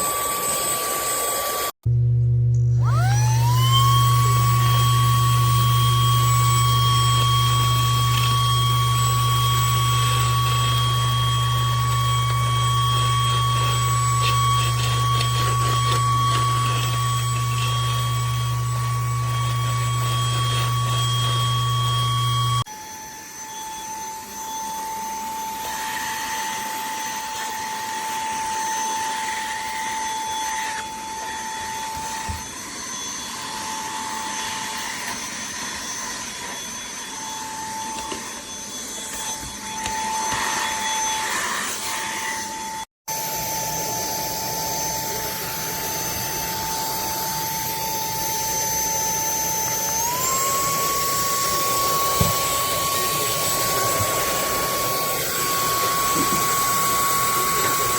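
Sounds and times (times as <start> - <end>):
handheld vacuum motor whine: 0.0 - 57.9.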